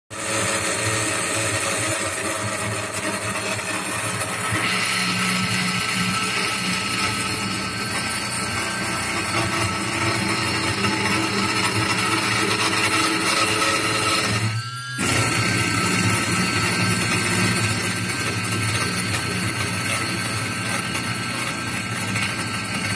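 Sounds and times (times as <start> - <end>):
milling spindle cutting plastic: 0.1 - 22.9.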